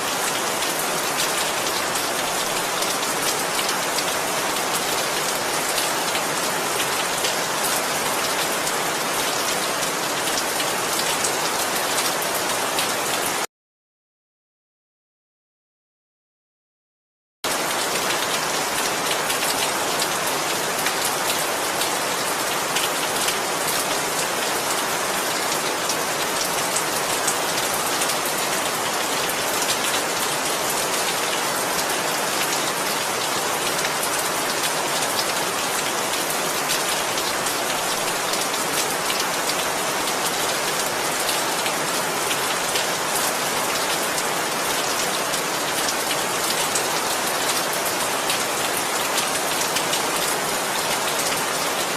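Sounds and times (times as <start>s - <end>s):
rain pattering: 0.0s - 13.5s, 17.5s - 51.9s.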